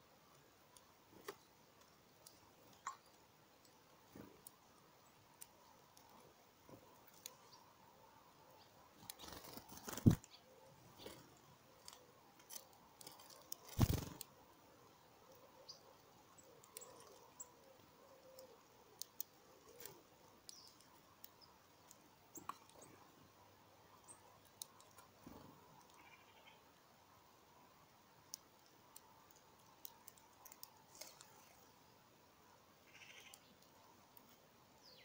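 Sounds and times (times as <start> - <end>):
birds pecking and hopping: 0.0 - 35.0.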